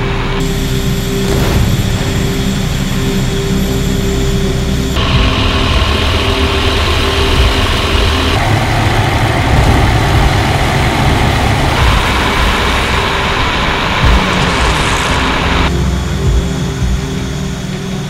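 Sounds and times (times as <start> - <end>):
rushing air: 0.0 - 17.4
aircraft piston engines: 0.0 - 18.0.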